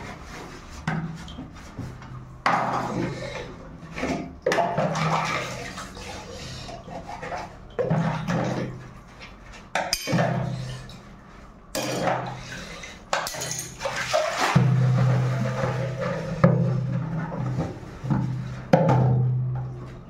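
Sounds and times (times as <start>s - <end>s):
dishes washed by hand: 0.0s - 20.0s
water sloshing in a plastic basin: 0.2s - 20.0s.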